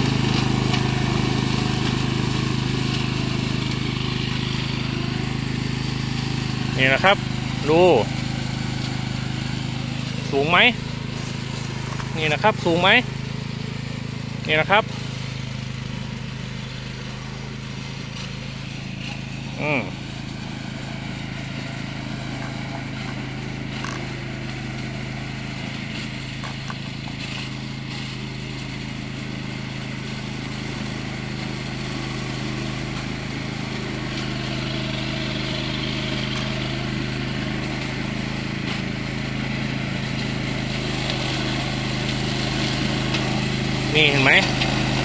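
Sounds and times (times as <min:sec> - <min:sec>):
lawn mower engine humming: 0:00.0 - 0:45.0.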